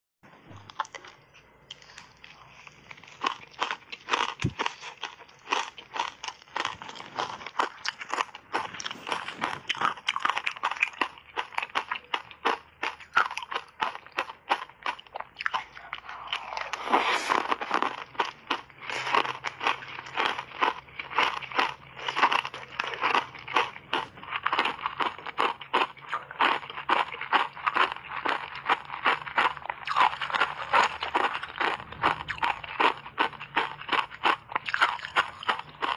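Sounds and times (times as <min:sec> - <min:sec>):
ice crunching being chewed: 0:00.5 - 0:35.9.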